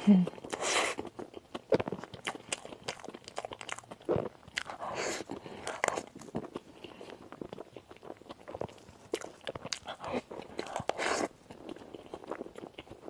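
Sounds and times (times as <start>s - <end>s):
chewing crisp food crunching: 0.2s - 13.0s.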